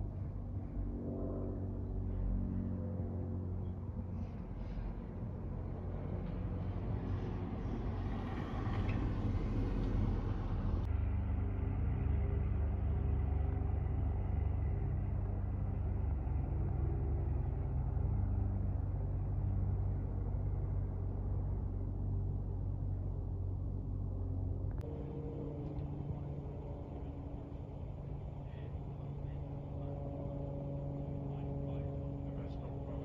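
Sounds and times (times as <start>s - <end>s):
jet airliner rumble overhead: 0.0s - 33.0s.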